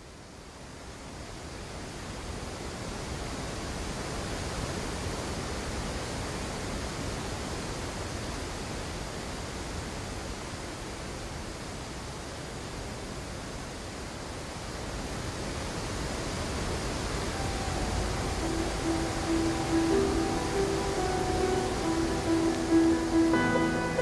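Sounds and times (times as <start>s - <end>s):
water rushing over dam: 1.1s - 24.0s.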